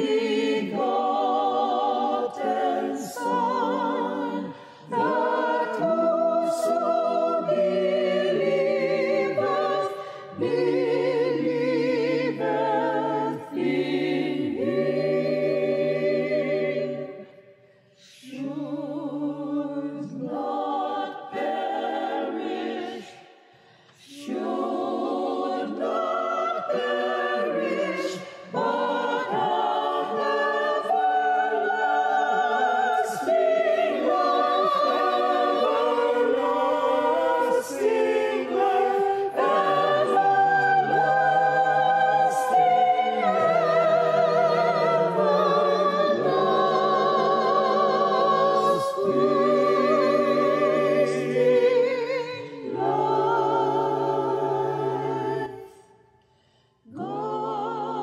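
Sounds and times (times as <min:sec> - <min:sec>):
choir singing slow song: 0:00.0 - 0:58.0.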